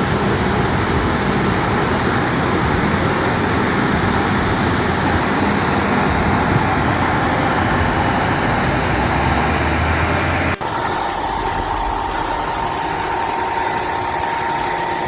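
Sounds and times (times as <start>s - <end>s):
heavy machine engine rumbling: 0.0s - 15.0s
machine whine: 0.0s - 15.0s.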